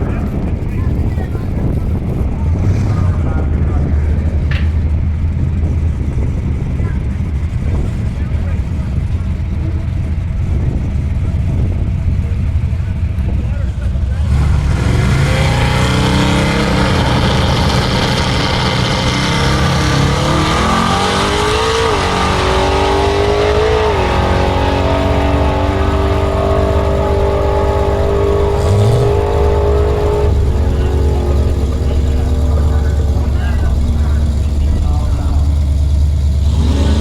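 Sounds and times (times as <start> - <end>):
car engine accelerating hard: 0.0 - 37.0
road and wind rumble: 0.0 - 37.0.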